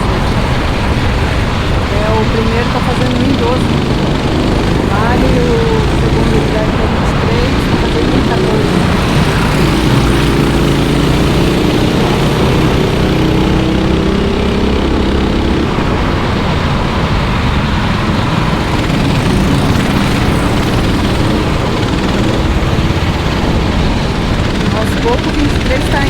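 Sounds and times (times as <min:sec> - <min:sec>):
racing kart engines: 0:00.0 - 0:26.0.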